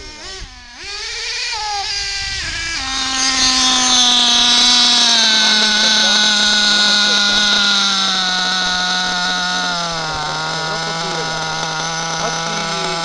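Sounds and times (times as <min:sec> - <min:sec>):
small model engine high-pitched drone: 0:00.0 - 0:13.0.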